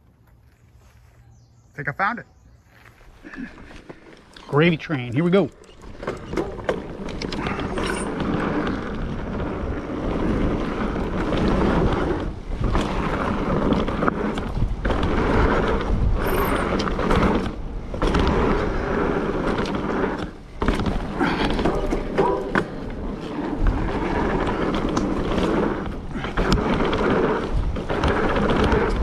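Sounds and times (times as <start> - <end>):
bike tyres rattling on dirt: 2.6 - 29.0
wind buffeting microphone: 3.2 - 29.0.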